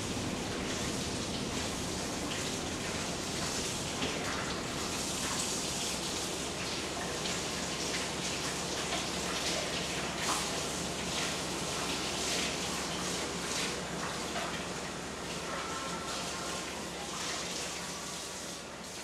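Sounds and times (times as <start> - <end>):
steady rain-like hiss: 0.0 - 19.0.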